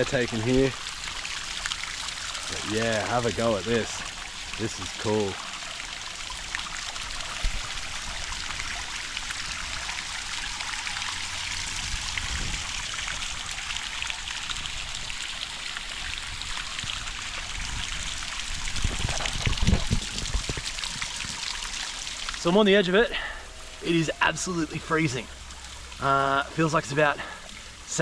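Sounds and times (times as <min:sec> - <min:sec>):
small waterfall splashing: 0:00.0 - 0:28.0.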